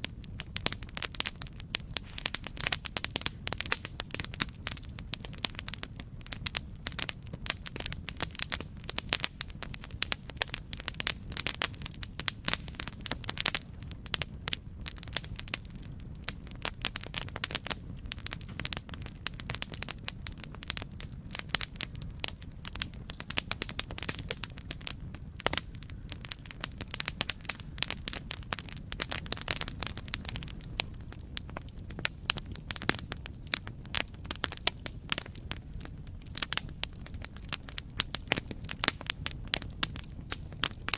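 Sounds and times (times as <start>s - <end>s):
low rumble of flames: 0.0s - 40.9s
wood crackling and popping: 0.0s - 40.9s.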